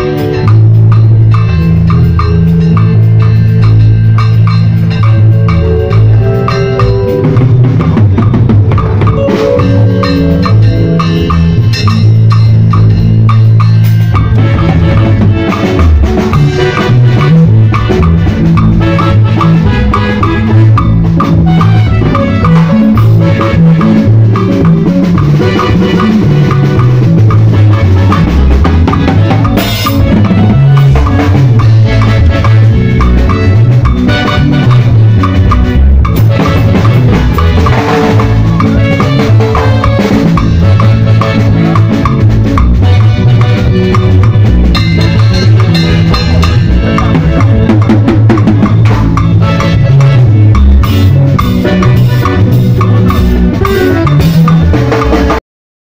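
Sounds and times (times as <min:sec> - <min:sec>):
band backing track: 0:00.0 - 0:55.4
drum kit playing: 0:00.0 - 0:55.4.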